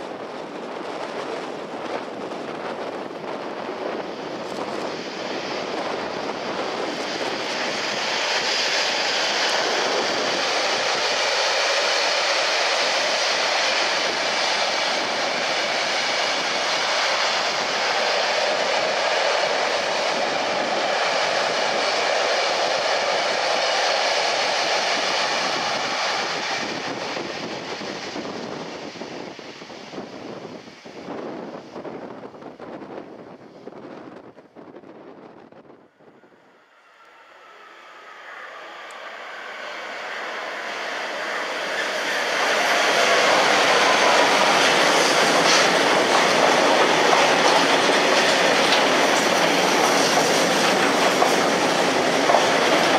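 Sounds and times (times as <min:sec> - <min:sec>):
train wheels rolling on rails: 0:00.0 - 0:52.9.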